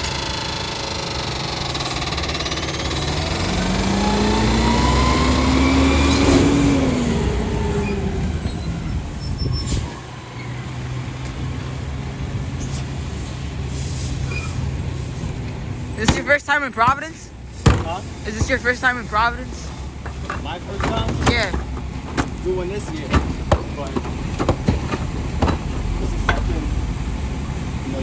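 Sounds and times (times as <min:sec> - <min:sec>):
garbage truck diesel engine revving: 0:00.0 - 0:28.0.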